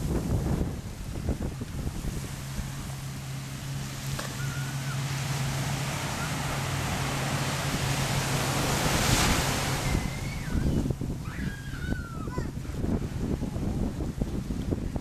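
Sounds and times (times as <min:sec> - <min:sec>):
ocean surf and breaking wave: 0:00.0 - 0:15.0
wind buffeting microphone: 0:00.0 - 0:15.0.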